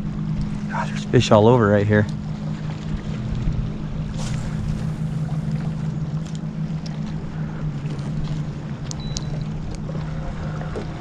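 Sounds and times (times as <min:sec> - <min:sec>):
boat motor humming: 0:00.0 - 0:11.0
water noise: 0:00.0 - 0:11.0
wind: 0:00.0 - 0:11.0.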